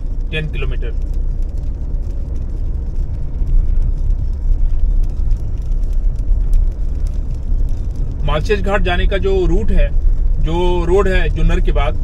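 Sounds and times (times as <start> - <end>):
car engine and tyre rumble: 0.0 - 12.0
tyres on wet road: 0.0 - 12.0.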